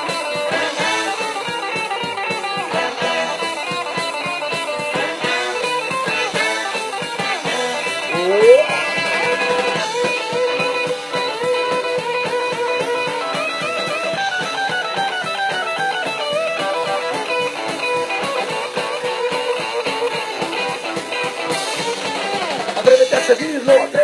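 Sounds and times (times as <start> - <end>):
bass: 0.0 - 24.0
drums: 0.0 - 24.0
melodic lead guitar line: 0.0 - 24.0
rhythm guitar: 0.0 - 24.0.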